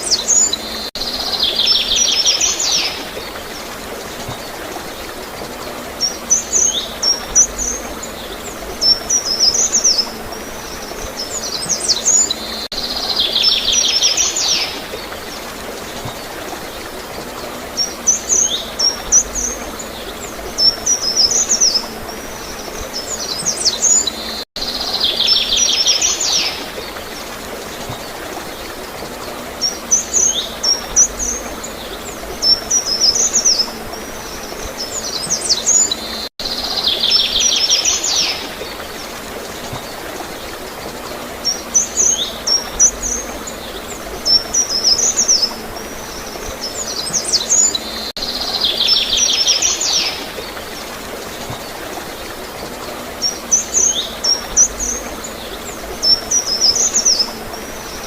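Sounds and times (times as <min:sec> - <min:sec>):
gurgling water: 0:00.0 - 0:58.0
songbirds chirping and trilling: 0:00.0 - 0:58.0.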